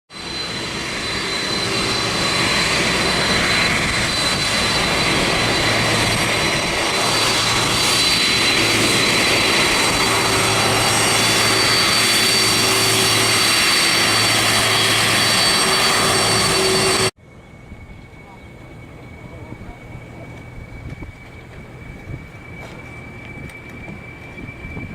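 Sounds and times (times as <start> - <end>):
jet engines running: 0.1 - 24.9.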